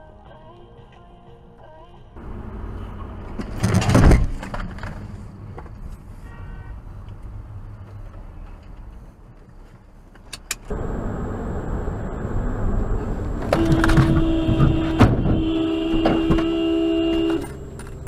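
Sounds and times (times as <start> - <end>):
car road and engine noise: 2.1 - 18.0.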